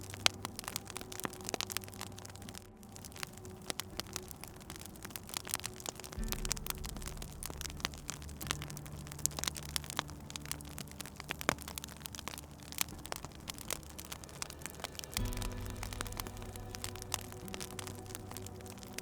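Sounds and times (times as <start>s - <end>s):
low steady drone: 0.0s - 19.0s
soft fire hiss: 0.0s - 19.0s
wood fire crackling and popping: 0.0s - 19.0s.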